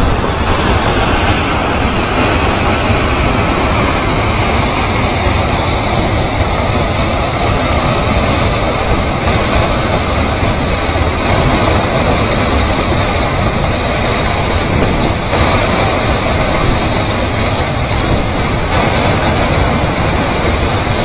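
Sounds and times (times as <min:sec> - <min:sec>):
mud and rocks grinding rumble: 0:00.0 - 0:21.0.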